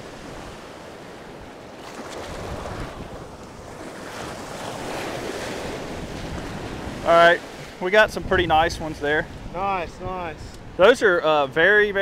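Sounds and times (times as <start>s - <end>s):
surf washing in shallows: 0.0s - 12.0s
wind buffeting microphone: 0.0s - 12.0s.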